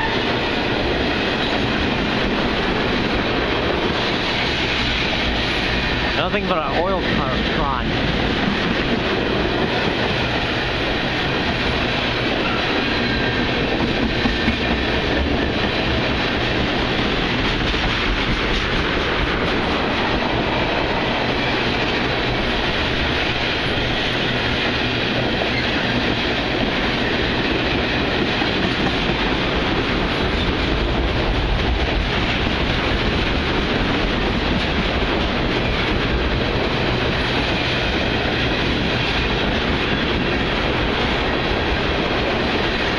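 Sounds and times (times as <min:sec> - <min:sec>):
train wheels clattering over rails: 0:00.0 - 0:42.9.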